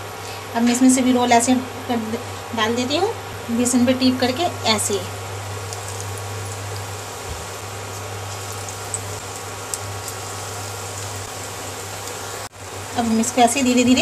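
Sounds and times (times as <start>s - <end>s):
low steady hum: 0.0s - 14.0s
oil sizzling while deep-frying: 0.0s - 14.0s.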